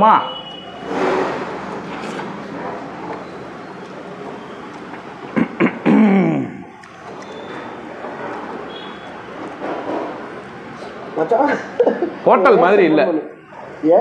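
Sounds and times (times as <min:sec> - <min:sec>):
dining room background noise: 0:00.0 - 0:14.0.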